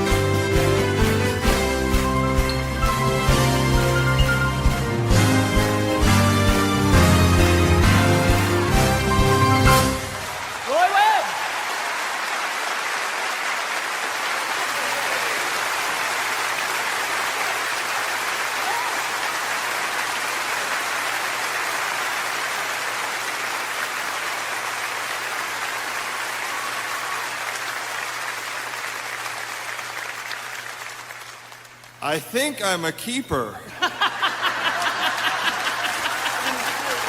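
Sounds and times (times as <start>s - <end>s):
audience applauding and cheering: 0.0s - 32.8s, 33.8s - 37.0s.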